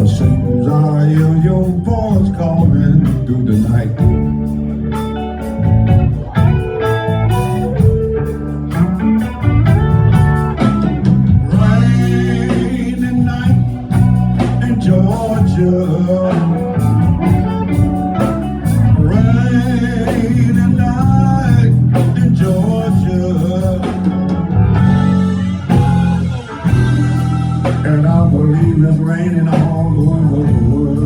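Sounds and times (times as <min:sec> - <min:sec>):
steady bass: 0:00.0 - 0:31.0.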